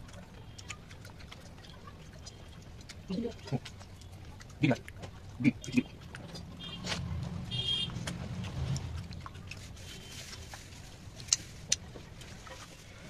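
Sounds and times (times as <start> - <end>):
wet mouth clicks and smacks: 0.0 - 12.6.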